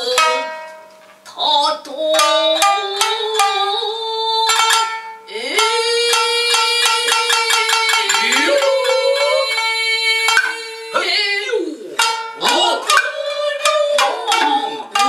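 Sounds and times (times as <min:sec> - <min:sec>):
shamisen plucked: 0:00.0 - 0:15.0.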